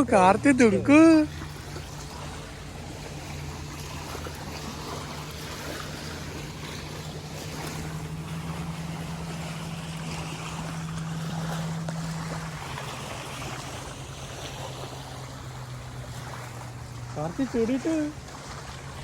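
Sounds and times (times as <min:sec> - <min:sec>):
motorboat engine droning: 0:00.0 - 0:19.0
wind and water wash: 0:00.0 - 0:19.0.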